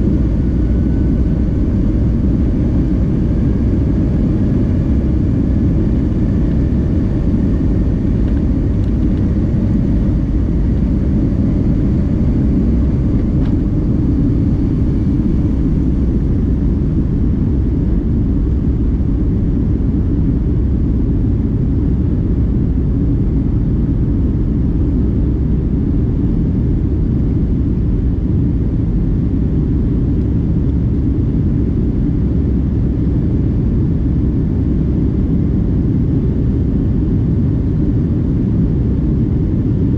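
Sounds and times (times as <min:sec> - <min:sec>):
jet airliner engine rumble: 0:00.0 - 0:39.9.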